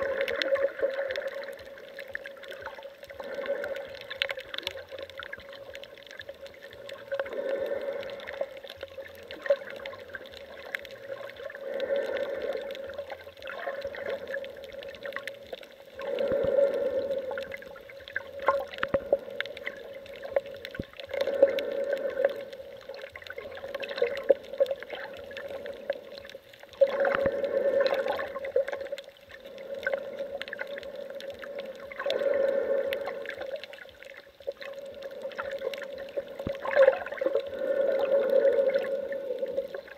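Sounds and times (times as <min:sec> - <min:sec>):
small clicks: 0:00.0 - 0:39.9
steady underwater hum: 0:00.0 - 0:39.9.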